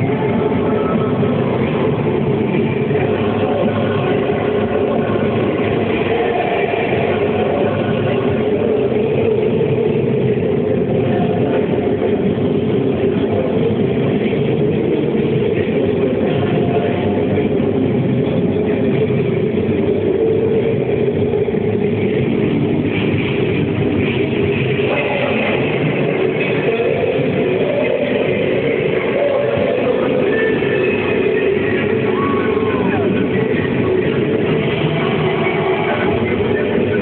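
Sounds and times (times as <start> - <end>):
loud dance music: 0.0 - 37.0.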